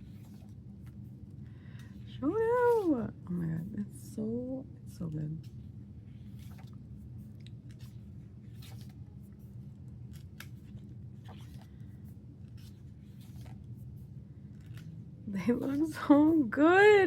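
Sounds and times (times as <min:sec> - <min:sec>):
pages rustling: 0:00.0 - 0:03.7, 0:05.4 - 0:16.5
steady low hum: 0:00.0 - 0:17.0.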